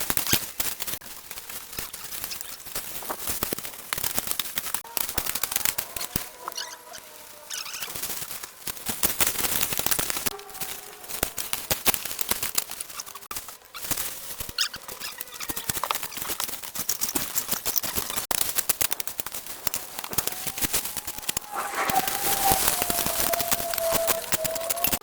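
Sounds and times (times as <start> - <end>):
scraping: 4.9 - 25.0.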